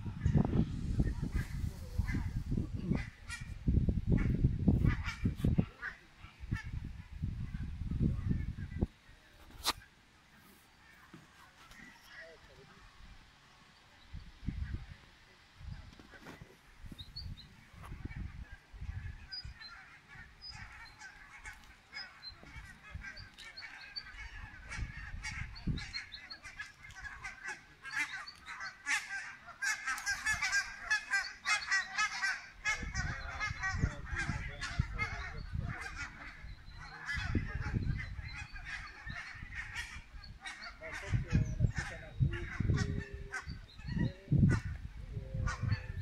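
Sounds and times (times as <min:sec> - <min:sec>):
flock of birds honking: 0:00.0 - 0:08.8, 0:15.9 - 0:46.0.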